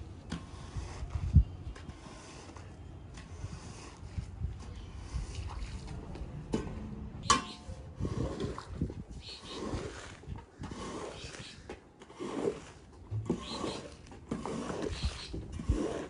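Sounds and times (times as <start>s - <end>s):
squeegee scraping wet rug: 0.0s - 6.3s, 7.8s - 16.0s.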